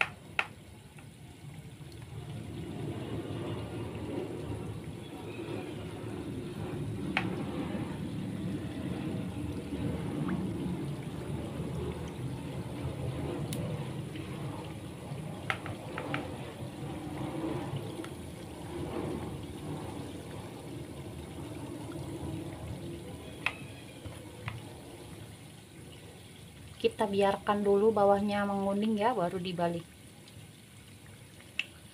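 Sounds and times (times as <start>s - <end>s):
batter sizzling in hot oil: 0.0s - 31.9s.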